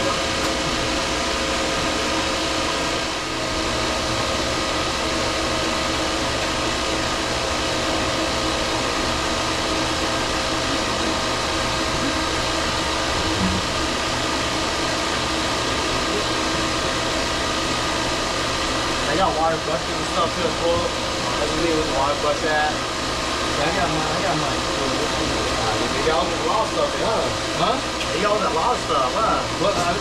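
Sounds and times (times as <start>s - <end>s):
machine compressor and fan drone: 0.0s - 30.0s.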